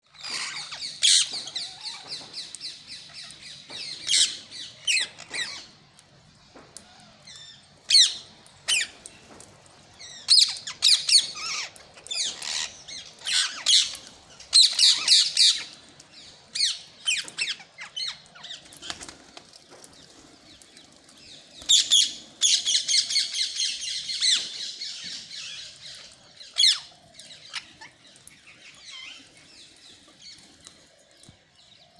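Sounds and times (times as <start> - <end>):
parakeets squawking and chattering: 0.1 - 5.8, 7.0 - 9.0, 10.0 - 19.0, 20.1 - 30.6.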